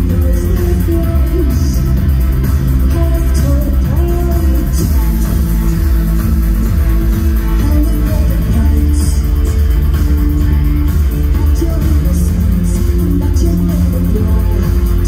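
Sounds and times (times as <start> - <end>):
woman singing: 0.0 - 6.6, 7.4 - 15.0
live band playing: 0.0 - 15.0.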